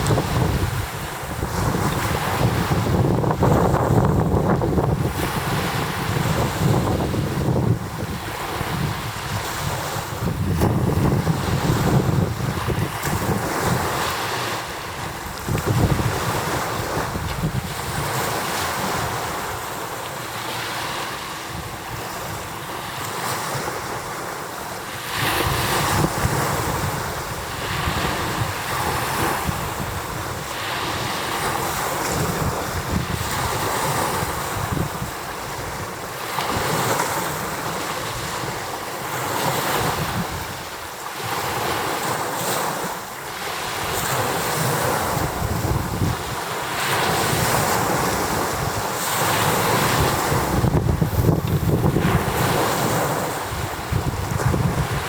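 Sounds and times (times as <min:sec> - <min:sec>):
wind buffeting microphone: 0:00.0 - 0:19.6, 0:25.1 - 0:42.2, 0:43.6 - 0:55.0
waves beating against shore: 0:00.0 - 0:55.0.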